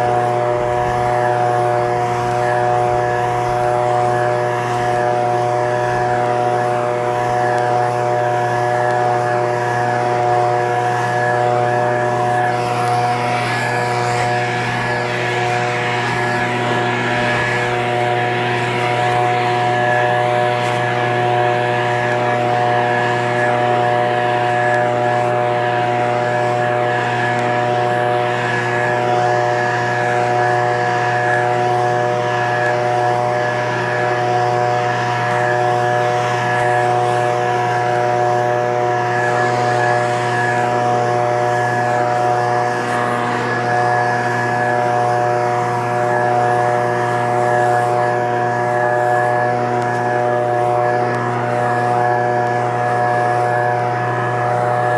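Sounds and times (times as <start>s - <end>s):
leaf blower engine running: 0.0s - 54.9s.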